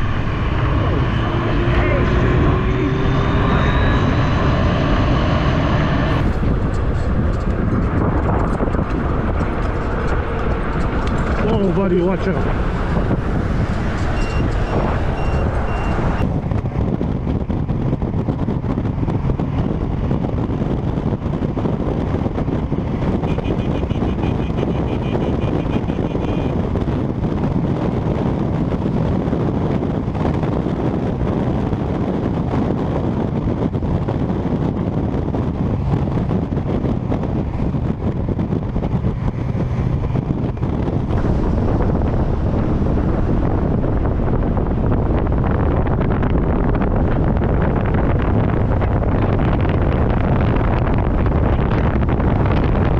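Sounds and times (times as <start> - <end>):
motorcycle motor noise: 0.0 - 52.9
wind buffeting microphone: 0.0 - 52.9.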